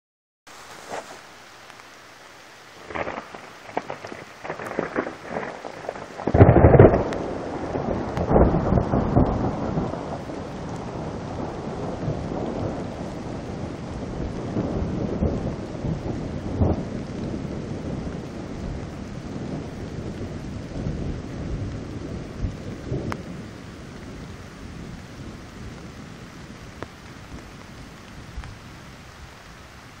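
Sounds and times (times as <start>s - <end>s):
steady rain: 0.5s - 30.0s
thunder rumbling: 2.8s - 29.4s.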